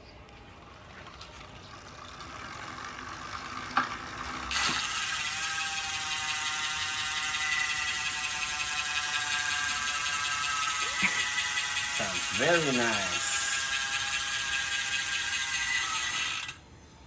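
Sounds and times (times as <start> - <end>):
bicycle wheel whirring: 0.0 - 16.6
freehub pawls buzzing: 0.0 - 16.6.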